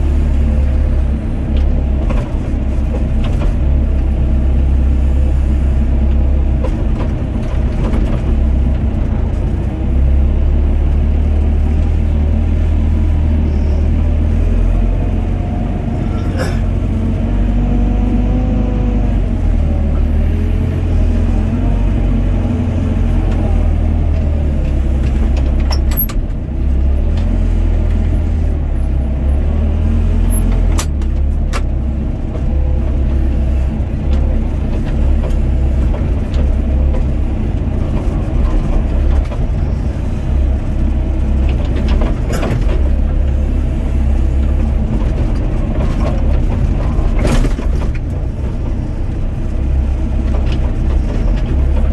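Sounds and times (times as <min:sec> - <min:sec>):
excavator diesel engine droning: 0:00.0 - 0:51.9.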